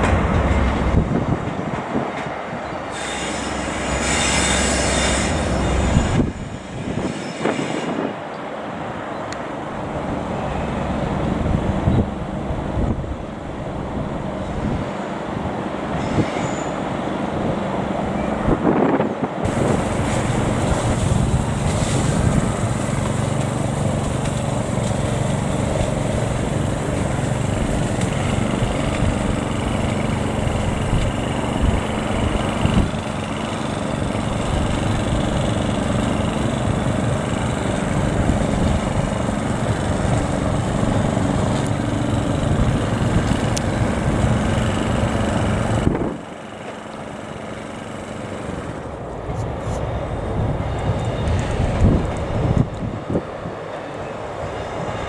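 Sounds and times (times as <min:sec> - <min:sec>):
wind buffeting microphone: 0:00.0 - 0:02.8, 0:05.2 - 0:09.0, 0:10.8 - 0:16.4, 0:17.2 - 0:46.4, 0:49.2 - 0:53.7
train diesel engine running: 0:00.0 - 0:55.0.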